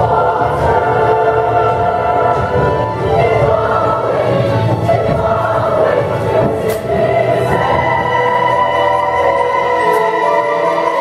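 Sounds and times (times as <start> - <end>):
opera chorus singing: 0.0 - 11.0.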